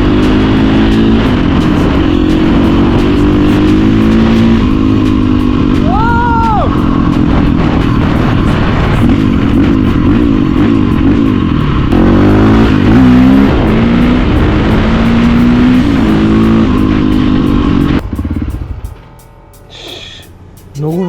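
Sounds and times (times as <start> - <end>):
dirt bike engine revving: 0.0 - 19.3.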